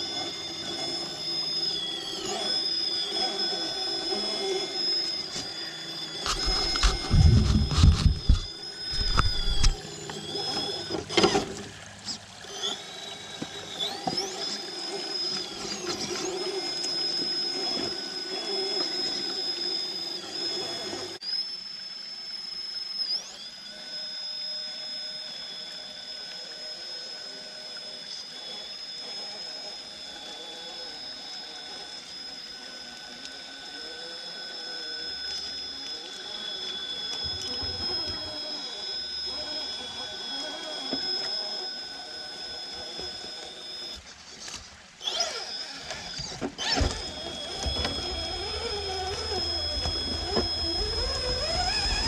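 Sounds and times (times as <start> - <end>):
electric motor whine: 0.0 - 52.0.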